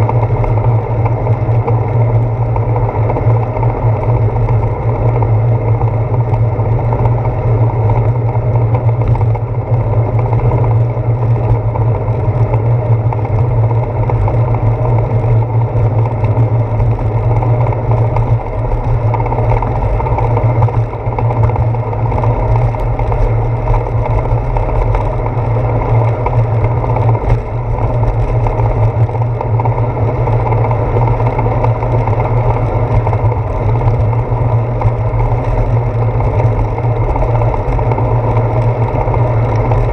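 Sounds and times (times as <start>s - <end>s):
bicycle tyres on wet pavement: 0.0s - 39.9s
wind rumble: 0.0s - 39.9s.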